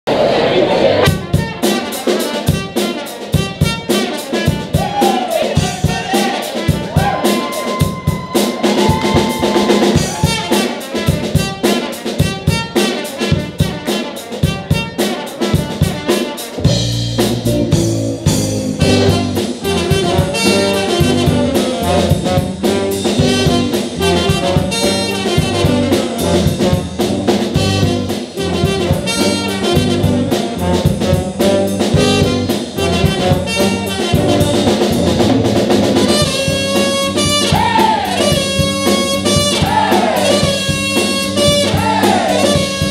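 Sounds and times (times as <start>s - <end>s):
live jazz-funk band playing: 0.9s - 42.9s.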